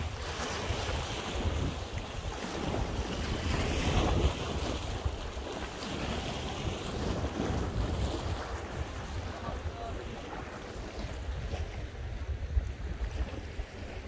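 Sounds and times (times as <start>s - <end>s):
sea waves on shore: 0.0s - 14.0s
wind on microphone: 0.0s - 14.0s.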